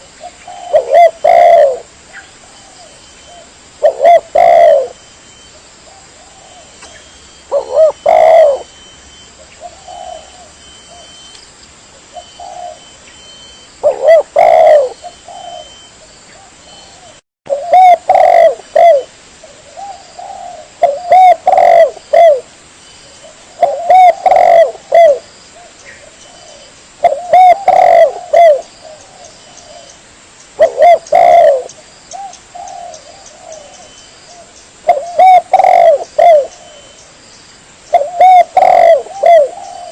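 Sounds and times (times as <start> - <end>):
dove cooing: 0.0 - 11.3, 12.0 - 22.5, 23.2 - 30.0, 30.6 - 37.0, 37.9 - 39.9.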